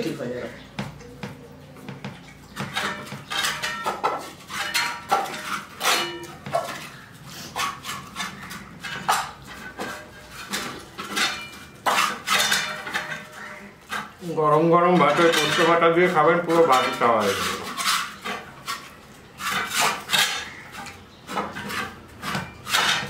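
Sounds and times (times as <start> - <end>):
plates clinking: 0.8 - 23.0
rice mixed by hand and chewed: 0.9 - 23.0.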